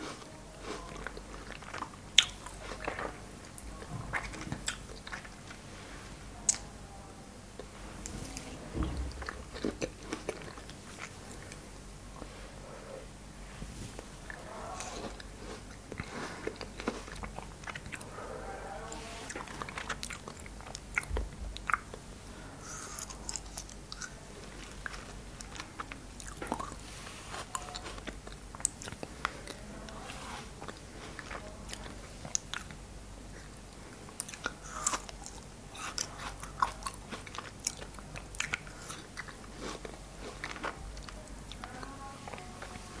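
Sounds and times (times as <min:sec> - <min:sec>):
crunchy chewing of frozen fruit: 0:00.0 - 0:05.7, 0:07.6 - 0:12.6, 0:14.0 - 0:43.0.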